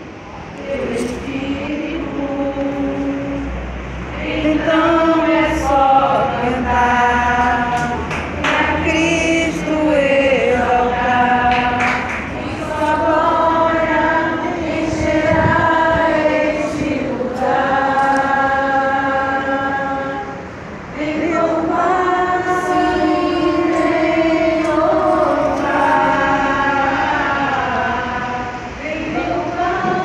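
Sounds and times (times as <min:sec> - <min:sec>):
congregation singing slowly: 0:00.0 - 0:30.0.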